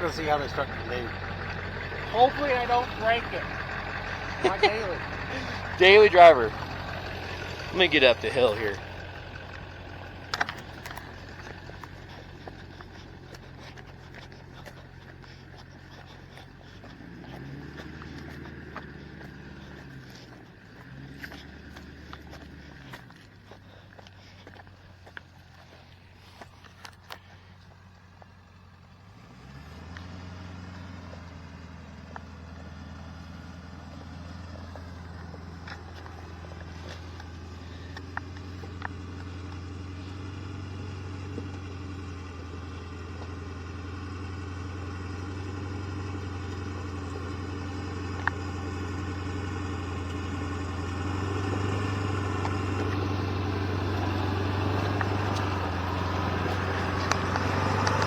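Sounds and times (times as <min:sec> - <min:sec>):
truck engine under load: 0:00.0 - 0:58.0.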